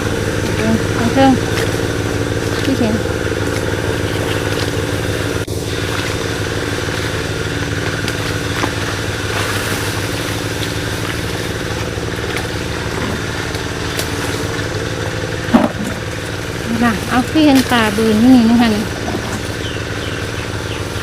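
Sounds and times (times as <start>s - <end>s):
water pump engine running: 0.0s - 21.0s.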